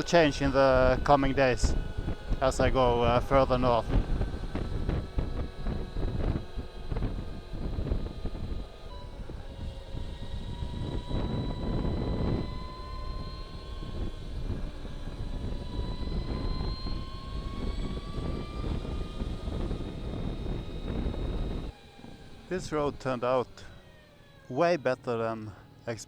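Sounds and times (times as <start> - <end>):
low wind rumble: 0.0 - 25.7
electric motorcycle whine: 0.0 - 26.0.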